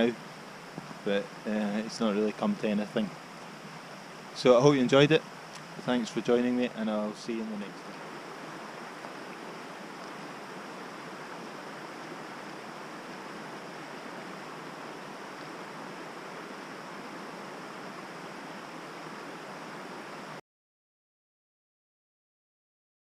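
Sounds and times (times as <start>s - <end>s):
river water rushing: 0.0s - 20.4s.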